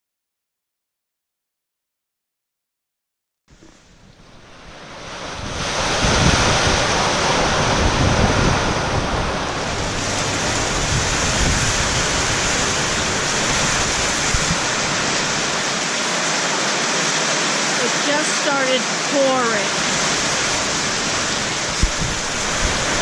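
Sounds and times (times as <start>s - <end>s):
heavy rain pouring: 3.7s - 23.0s.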